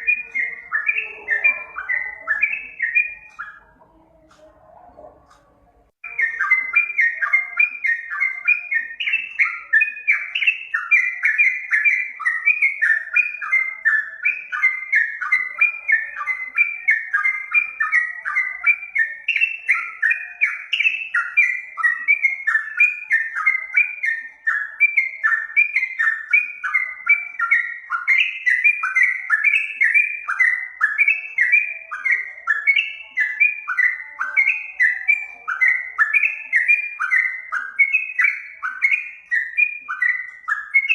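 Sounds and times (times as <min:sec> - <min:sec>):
recorded bulbul song: 0:00.0 - 0:40.9.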